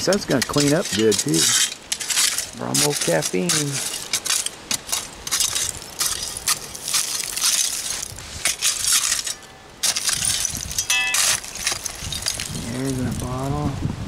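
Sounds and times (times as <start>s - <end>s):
glass shards clinking: 0.0s - 13.3s
digging tool scraping dirt: 0.0s - 13.4s.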